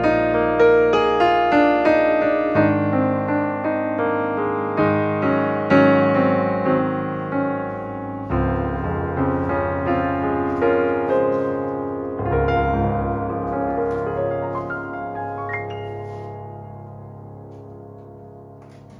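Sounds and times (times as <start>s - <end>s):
piano music: 0.0s - 18.9s.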